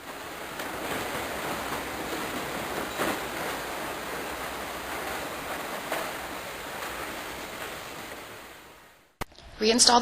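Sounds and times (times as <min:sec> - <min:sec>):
steady rushing noise: 0:00.0 - 0:09.2.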